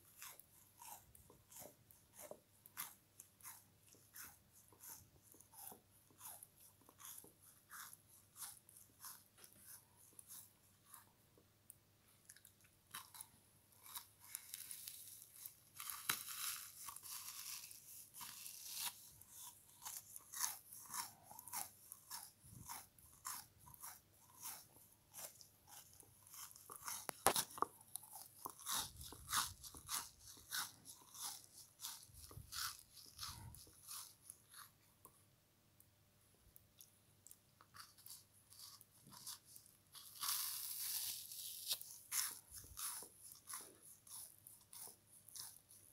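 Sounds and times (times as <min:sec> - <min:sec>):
crunchy chewing of frozen cake: 0:00.0 - 0:35.4, 0:36.5 - 0:45.9.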